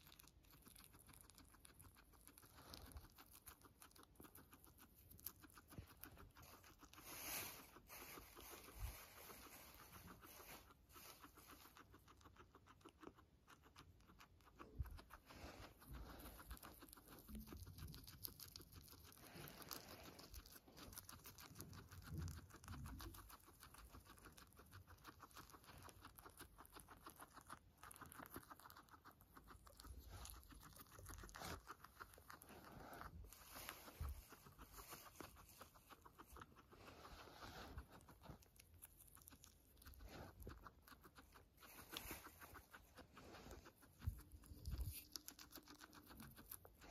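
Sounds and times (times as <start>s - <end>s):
guinea pig chewing leaves: 0.0s - 46.9s.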